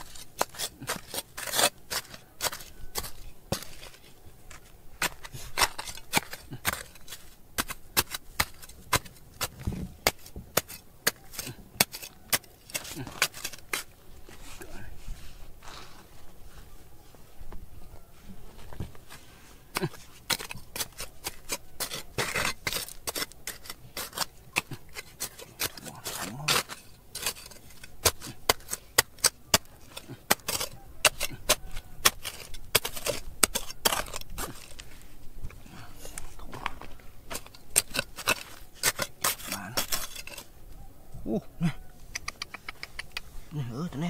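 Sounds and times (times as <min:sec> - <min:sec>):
digging tool scraping stone: 0:00.0 - 0:14.6, 0:19.7 - 0:40.6.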